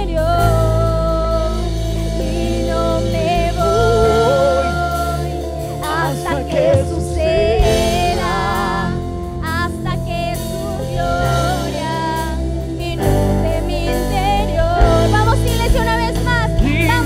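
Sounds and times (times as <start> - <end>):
drums: 0.0 - 17.0
electric guitar: 0.0 - 17.0
keyboard: 0.0 - 17.0
voices singing with vibrato: 0.0 - 17.0.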